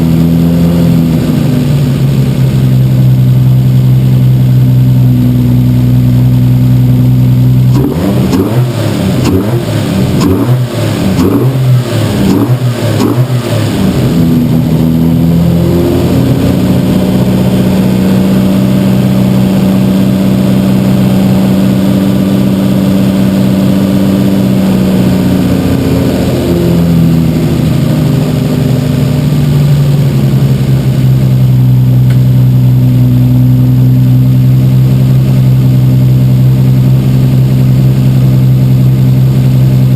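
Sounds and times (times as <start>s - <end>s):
engine throttle blips: 0.0s - 39.9s
turbo engine idling: 0.0s - 39.9s.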